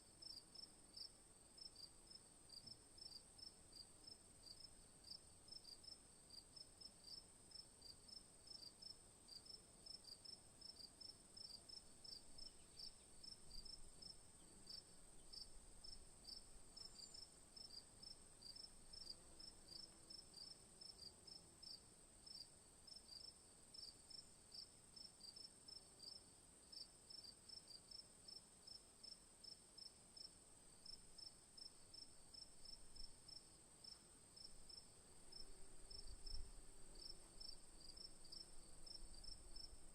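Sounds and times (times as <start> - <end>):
crickets chirping: 0.2 - 39.9.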